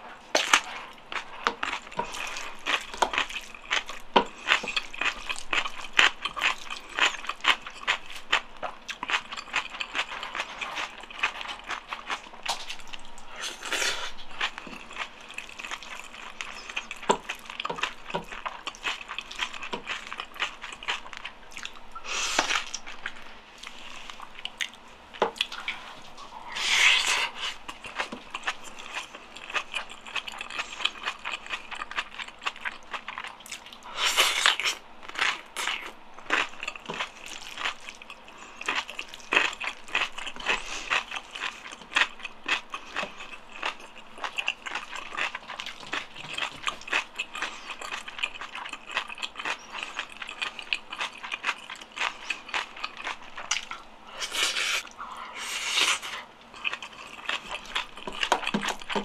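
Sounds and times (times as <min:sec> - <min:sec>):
close chewing and mouth clicks: 0:00.3 - 0:59.0.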